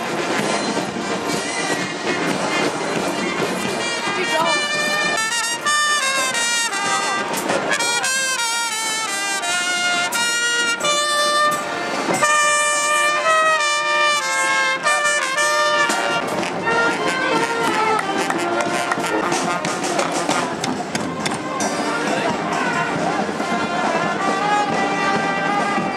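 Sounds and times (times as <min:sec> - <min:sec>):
street brass band playing: 0:00.0 - 0:25.9.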